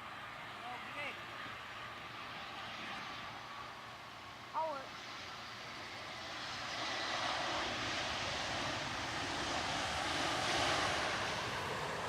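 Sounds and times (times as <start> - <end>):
jet plane landing: 0.0 - 12.0.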